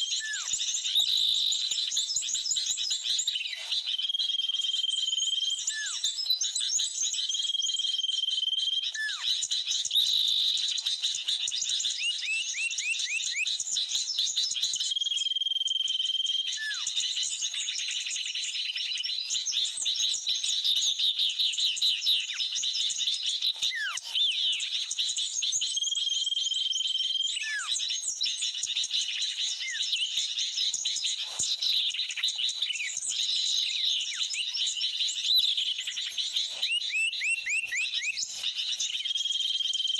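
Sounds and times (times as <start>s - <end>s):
bird chatter of chirps and calls: 0.0s - 39.9s.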